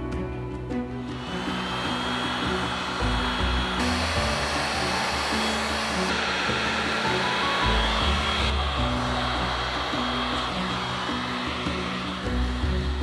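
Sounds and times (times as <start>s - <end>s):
plucked-string background music: 0.0s - 13.0s
electric tool whirring: 1.0s - 13.0s.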